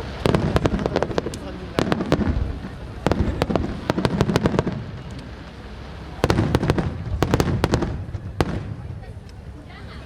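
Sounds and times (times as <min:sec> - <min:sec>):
fireworks cracking: 0:00.0 - 0:09.5.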